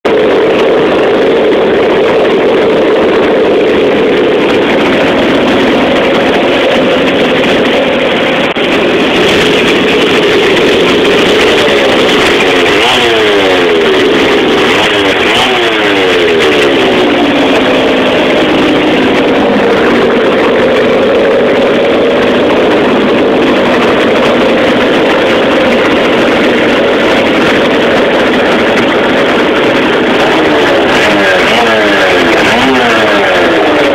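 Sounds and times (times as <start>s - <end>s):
two-stroke engines revving: 0.0s - 33.9s.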